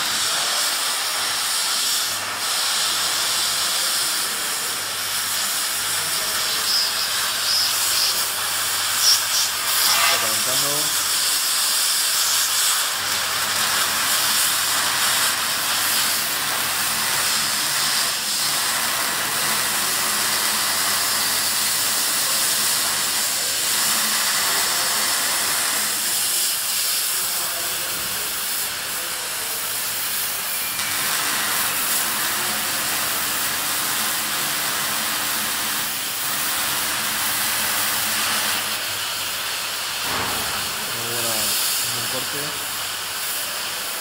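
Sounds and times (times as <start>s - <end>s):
cutting torch hissing: 0.0s - 44.0s.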